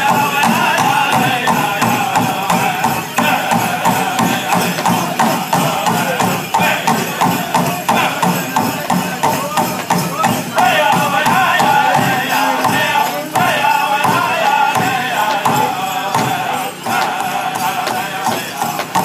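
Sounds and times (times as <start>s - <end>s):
big drum steady beat: 0.0s - 19.0s
men chanting high voices: 0.0s - 19.0s.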